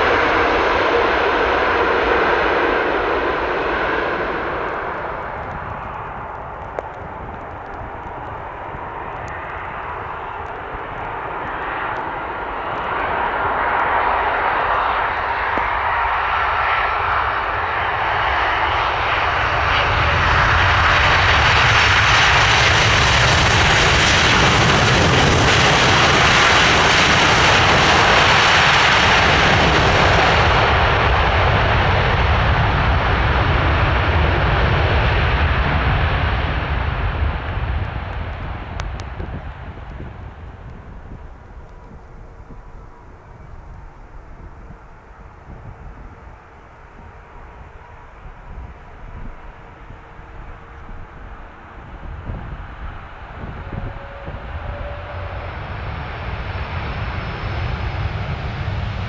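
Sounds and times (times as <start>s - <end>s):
jet airliner landing: 0.0s - 59.0s.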